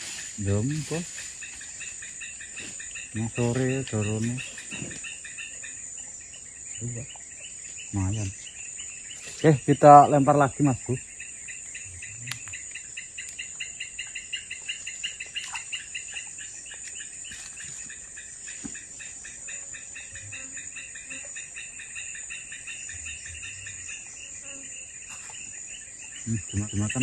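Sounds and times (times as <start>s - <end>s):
high-pitched insect whine: 0.0s - 27.0s
insects trilling: 0.0s - 27.0s.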